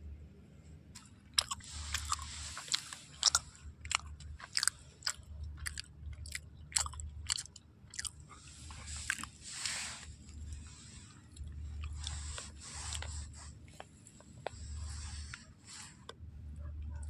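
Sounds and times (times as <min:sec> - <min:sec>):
chewing with crisp crunches: 0:01.0 - 0:17.0.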